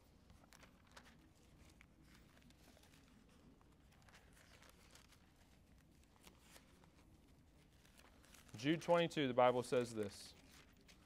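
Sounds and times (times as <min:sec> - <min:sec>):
pages turning: 0:00.0 - 0:11.0.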